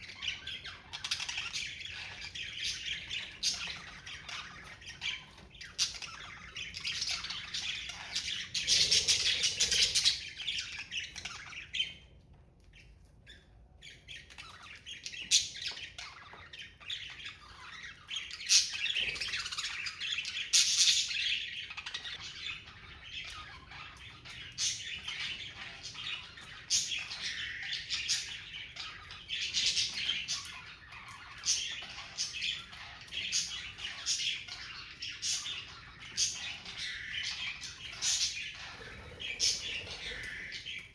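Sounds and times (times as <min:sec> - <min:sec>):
budgerigars chattering and chirping: 0:00.0 - 0:12.1, 0:13.3 - 0:40.9.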